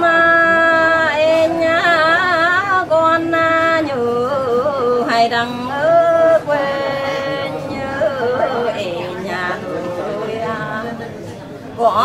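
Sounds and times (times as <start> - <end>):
woman singing folk song: 0.0 - 12.0.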